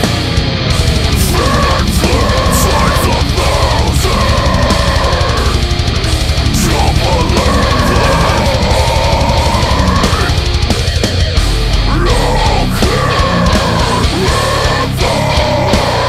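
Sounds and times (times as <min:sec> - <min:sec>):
heavy metal music: 0:00.0 - 0:16.0
lead guitar bending long notes: 0:00.0 - 0:16.0.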